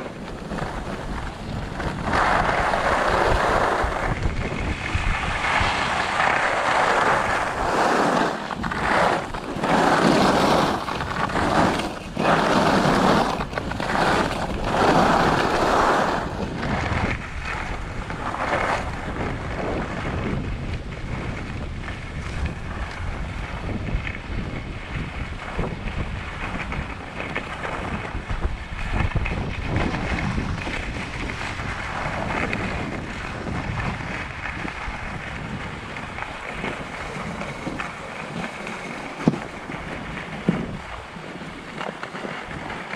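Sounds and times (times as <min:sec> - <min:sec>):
skis sliding on packed snow: 0:00.0 - 0:42.9
wind rushing over microphone: 0:00.0 - 0:42.9.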